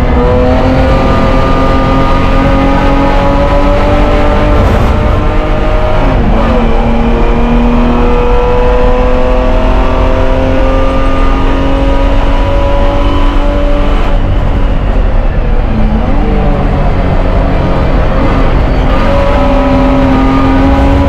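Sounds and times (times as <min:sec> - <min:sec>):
race car engine at full throttle: 0:00.0 - 0:21.0
road and wind noise: 0:00.0 - 0:21.0.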